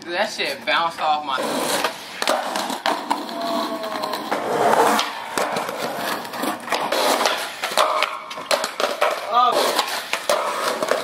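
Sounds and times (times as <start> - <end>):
skateboard wheels rolling on concrete: 0.1 - 11.0.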